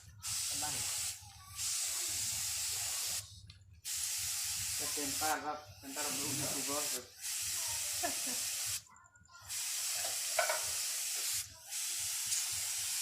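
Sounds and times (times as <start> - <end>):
paint spray gun hissing: 0.0 - 8.8, 9.5 - 13.0.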